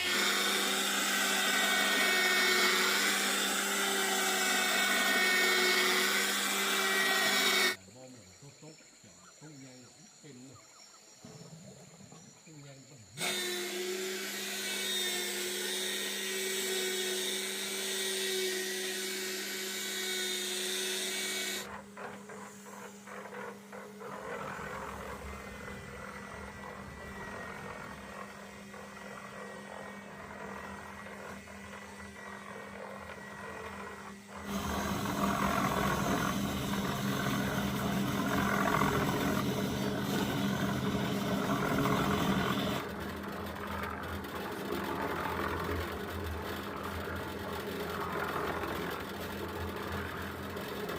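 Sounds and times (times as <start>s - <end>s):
motor humming: 0.0s - 7.8s, 13.1s - 50.9s.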